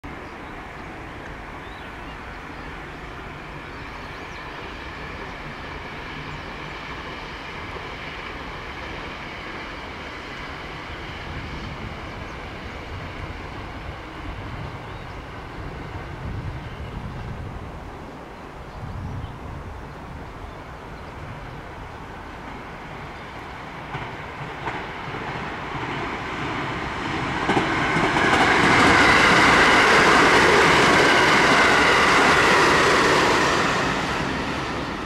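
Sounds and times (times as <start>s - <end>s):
electric train rumble: 0.1s - 35.0s.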